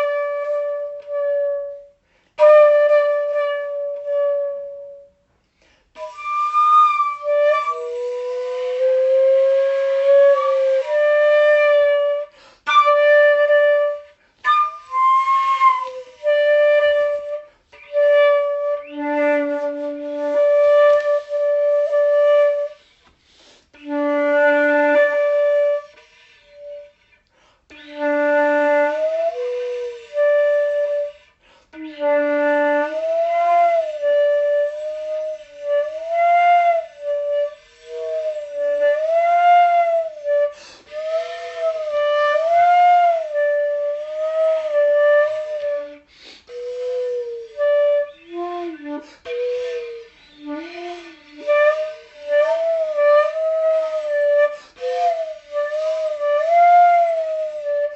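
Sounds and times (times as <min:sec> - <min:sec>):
solo flute-like wind instrument: 0:00.0 - 0:57.9.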